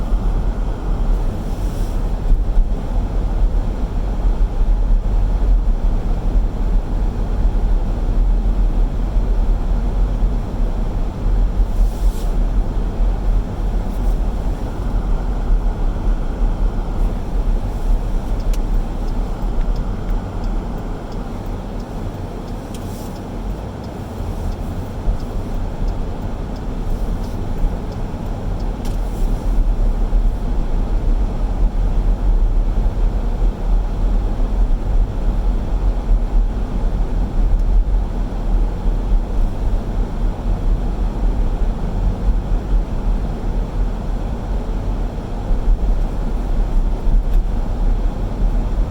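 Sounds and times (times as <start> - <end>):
car engine and tyre rumble: 0.0 - 48.9.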